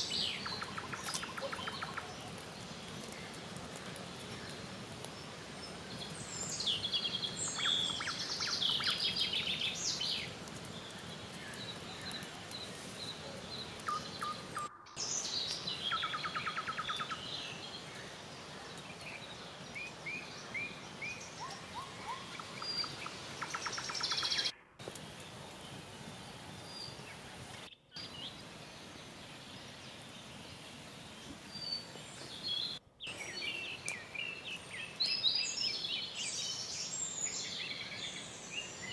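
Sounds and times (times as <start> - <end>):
songbirds singing and calling: 0.0 - 38.9
steady background hiss: 0.0 - 38.9.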